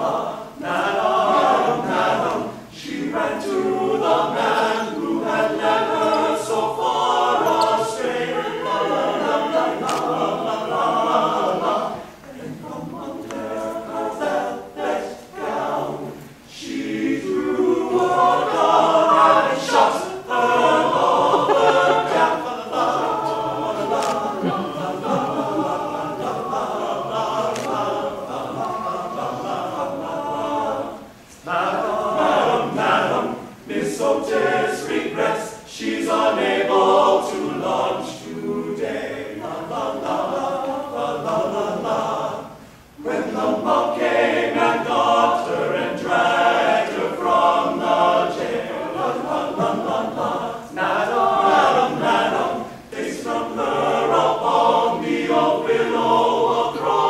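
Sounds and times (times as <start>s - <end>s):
men's chorus singing: 0.0s - 57.0s.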